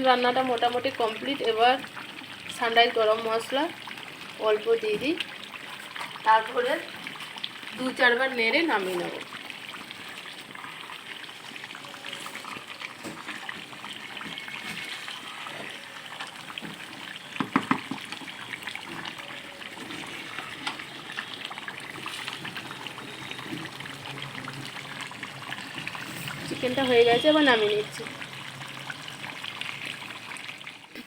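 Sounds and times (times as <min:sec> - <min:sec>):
food bubbling in a pot: 0:00.0 - 0:31.0.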